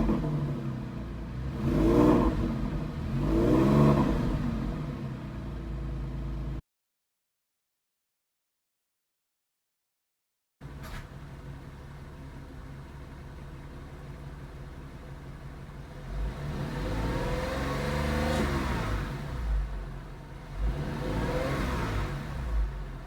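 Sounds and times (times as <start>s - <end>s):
car engine idling and revving: 0.0s - 6.6s, 10.6s - 23.0s.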